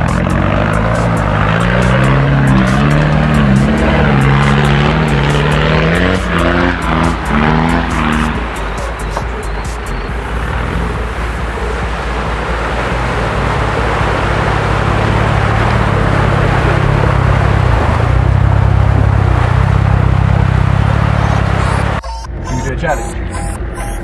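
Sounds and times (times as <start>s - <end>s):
broad rushing noise: 0.0s - 23.6s
truck engine pulling hard: 0.0s - 24.0s.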